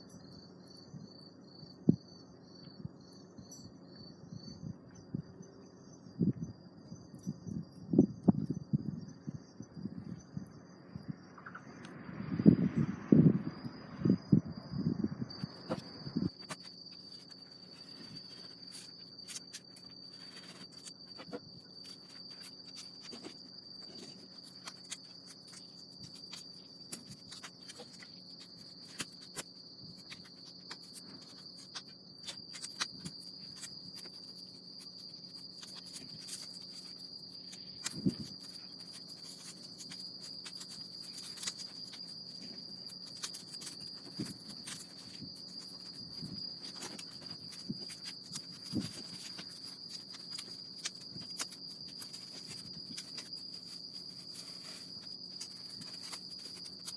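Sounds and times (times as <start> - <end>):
crickets trilling: 0.0 - 56.9
small clicks and crackles: 6.4 - 12.0, 15.3 - 56.9.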